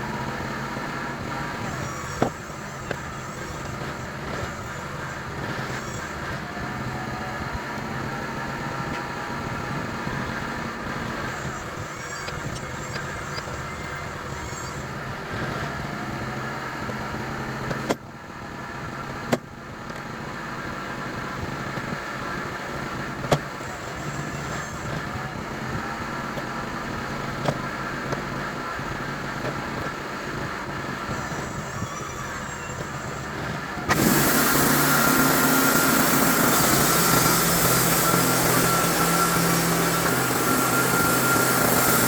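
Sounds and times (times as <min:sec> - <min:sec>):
sawmill engine running: 0:00.0 - 0:42.0.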